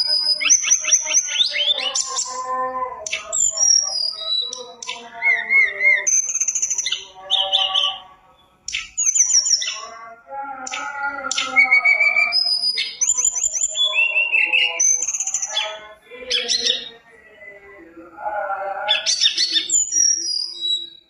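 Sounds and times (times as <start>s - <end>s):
songbird singing whistles and trills: 0.0s - 17.8s, 18.9s - 21.0s.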